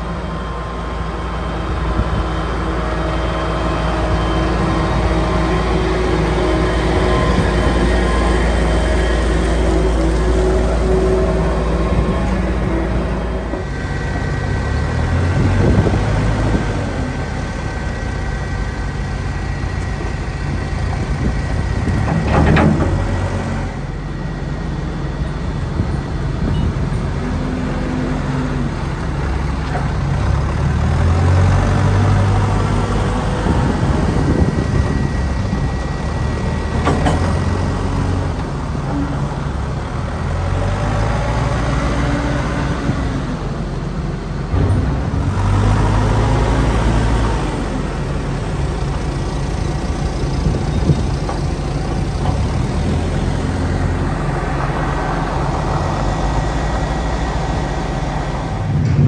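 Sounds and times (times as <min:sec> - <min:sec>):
diesel loader engine revving: 0:00.0 - 0:59.0.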